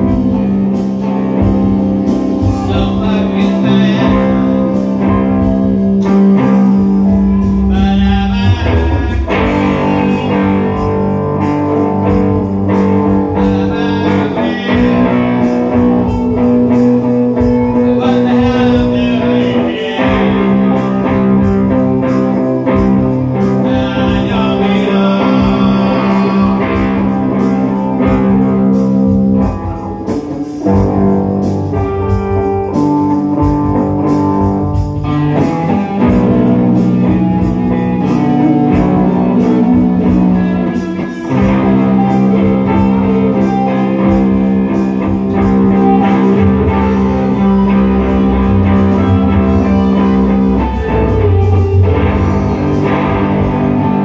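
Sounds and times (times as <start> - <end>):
electric guitars playing blues-rock: 0.0 - 54.0.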